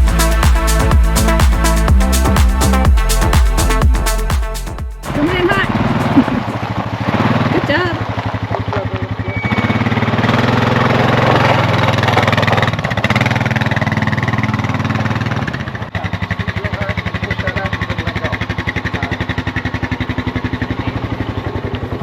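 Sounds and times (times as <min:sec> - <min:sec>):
atv engine revving and idling: 0:00.0 - 0:22.0.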